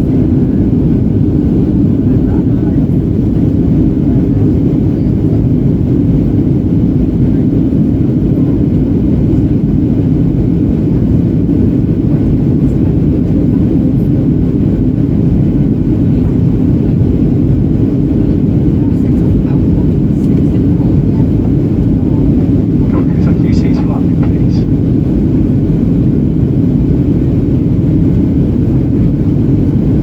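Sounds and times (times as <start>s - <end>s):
aircraft cabin roar: 0.0s - 30.0s.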